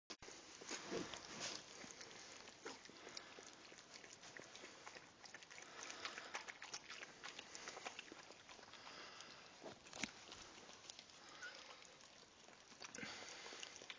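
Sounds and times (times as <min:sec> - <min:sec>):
dog licking wet: 0:01.6 - 0:13.9.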